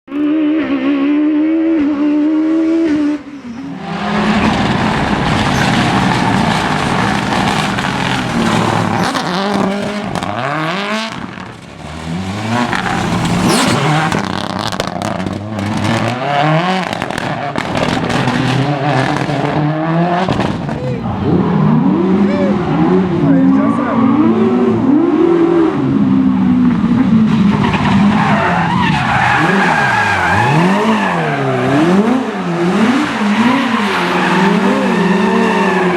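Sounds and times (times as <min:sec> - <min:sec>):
rally car engines at full throttle: 0:00.0 - 0:35.9.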